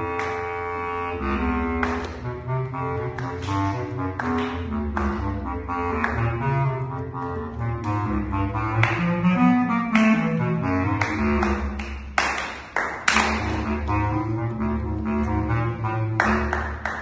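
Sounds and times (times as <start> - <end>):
bass clarinet playing short notes: 0.0 - 11.9, 13.3 - 16.9.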